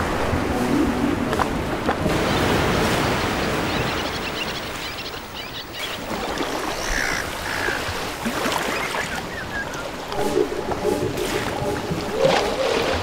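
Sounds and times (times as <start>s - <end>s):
waves breaking on beach: 0.0s - 13.0s
bird calls: 2.1s - 12.8s.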